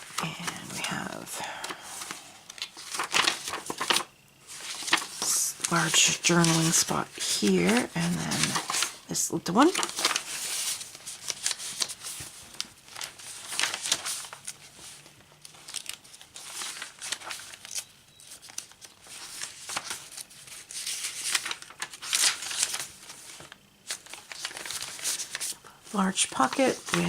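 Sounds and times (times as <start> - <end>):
paper pages rustling and crinkling: 0.0 - 27.0.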